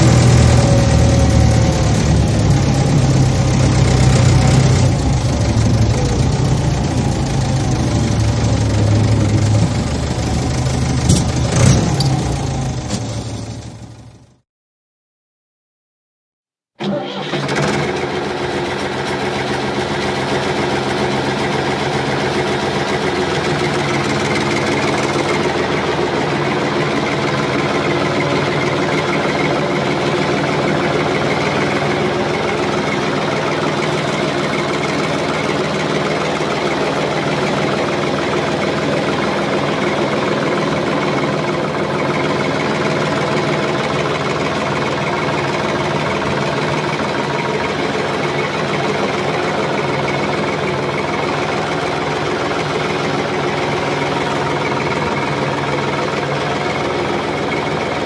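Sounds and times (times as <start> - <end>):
heavy engine running: 0.0 - 14.4, 16.8 - 58.0.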